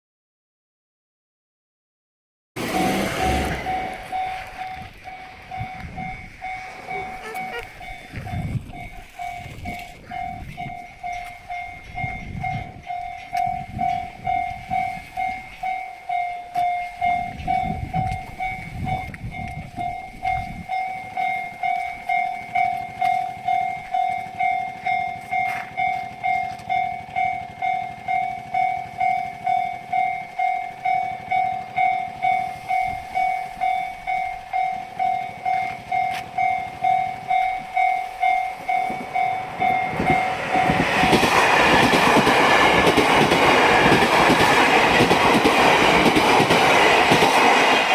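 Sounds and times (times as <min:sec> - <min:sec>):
level crossing bell ringing: 0:02.6 - 0:41.1.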